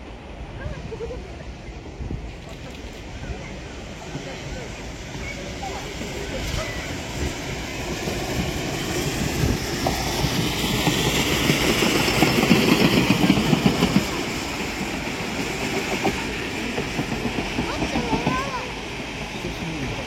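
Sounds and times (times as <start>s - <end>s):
train wheels clattering on rails: 2.0s - 20.0s.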